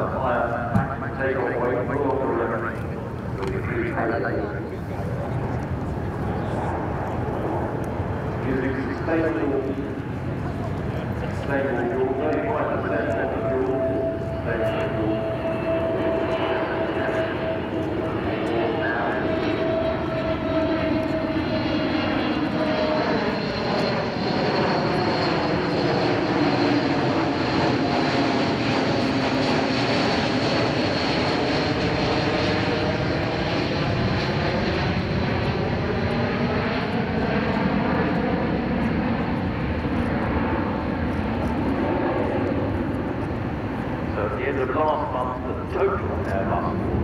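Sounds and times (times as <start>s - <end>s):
jet airliner flying overhead: 0.0s - 47.0s.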